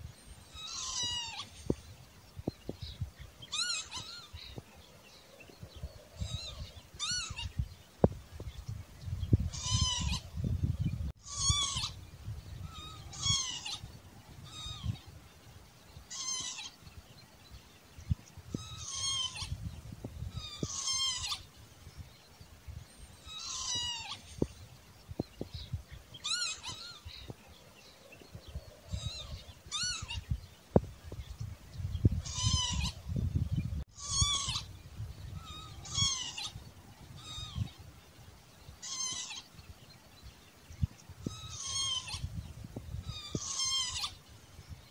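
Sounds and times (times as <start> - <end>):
lapwing calling: 0.3 - 8.6, 9.4 - 15.2, 16.0 - 17.0, 18.1 - 21.7, 22.9 - 38.0, 38.6 - 39.7, 40.8 - 44.9.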